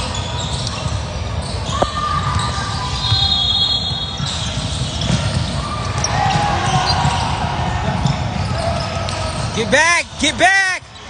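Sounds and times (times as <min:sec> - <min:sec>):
sneaker squeak: 0:00.0 - 0:09.7.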